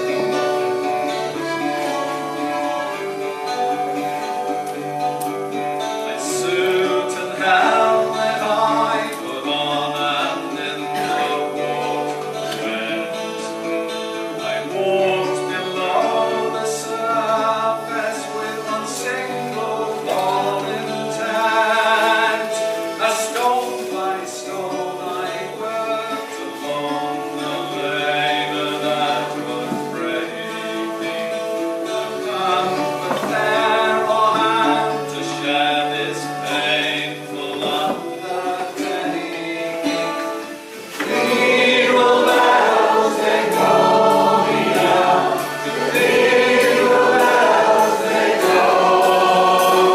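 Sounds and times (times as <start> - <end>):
folk band playing: 0.0 - 49.9.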